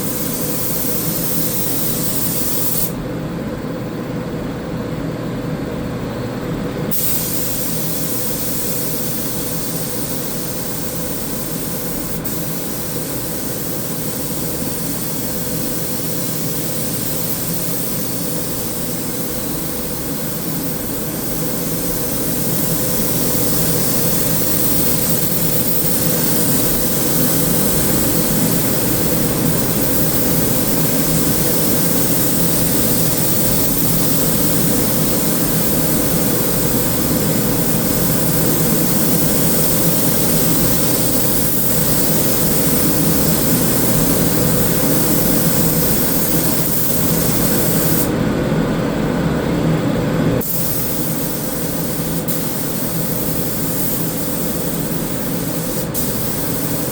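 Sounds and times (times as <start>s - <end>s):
paint spray gun hissing: 0.0s - 3.0s, 6.9s - 48.1s, 50.4s - 56.9s.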